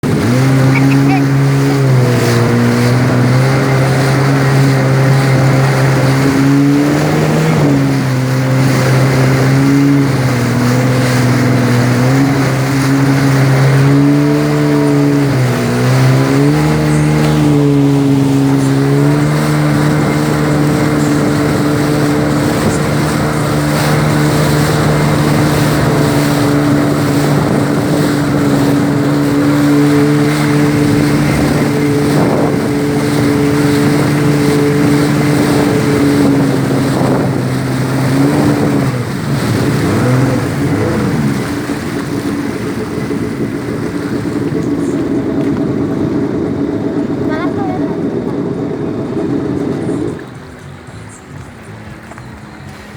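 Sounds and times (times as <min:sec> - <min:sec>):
jet ski engine running: 0:00.0 - 0:52.9.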